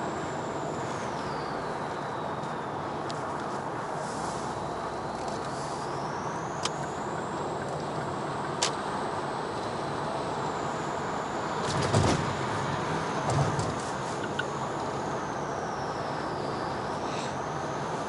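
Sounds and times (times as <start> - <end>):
engine and road noise: 0.0 - 18.0.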